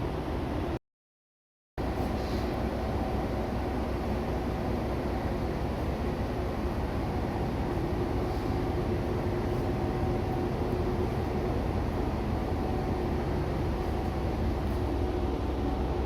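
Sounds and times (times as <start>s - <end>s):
diesel railcar engine rumbling: 0.0s - 0.8s, 1.8s - 16.0s.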